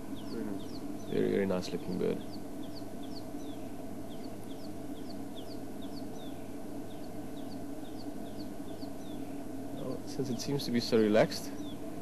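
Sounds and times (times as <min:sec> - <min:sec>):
high bird chirps: 0:00.0 - 0:10.0, 0:11.2 - 0:11.9
steady low hum: 0:00.0 - 0:12.0.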